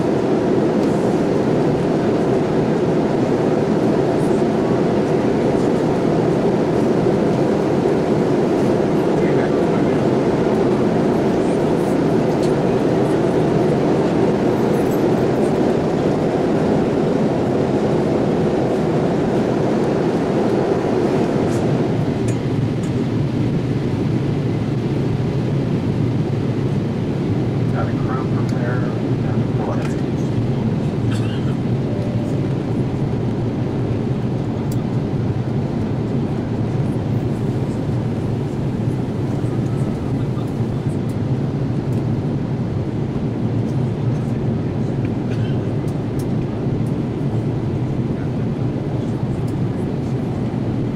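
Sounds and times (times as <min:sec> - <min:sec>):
airliner cabin engine and airflow noise: 0:00.0 - 0:50.9.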